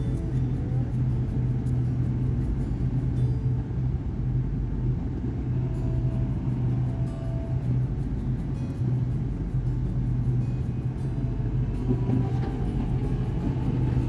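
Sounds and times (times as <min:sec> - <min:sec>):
electric train rumble and hum: 0:00.0 - 0:14.0
faint background music: 0:00.0 - 0:14.0.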